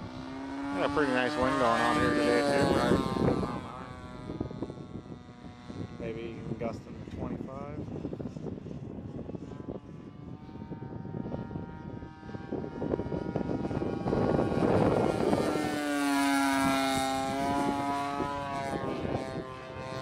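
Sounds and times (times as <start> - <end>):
model plane engine buzzing: 0.0 - 20.0.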